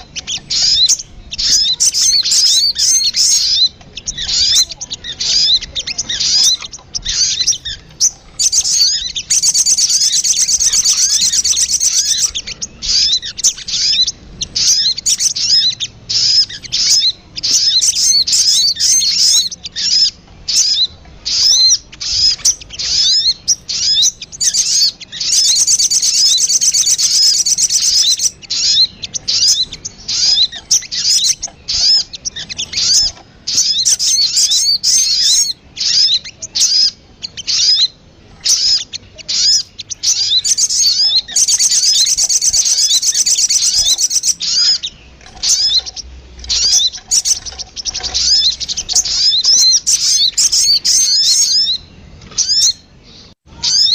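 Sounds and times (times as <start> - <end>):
bird chirping rapidly: 0.0 - 53.9
dense bird chatter: 0.0 - 53.9.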